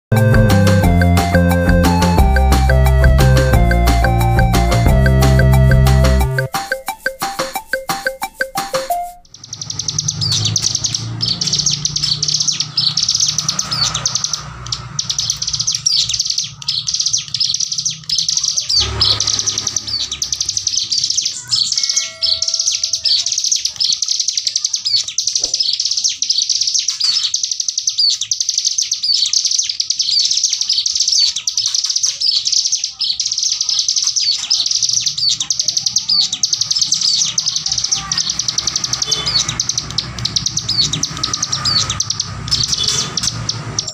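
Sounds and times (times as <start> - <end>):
bird rapid high chattering song: 0.1 - 43.9.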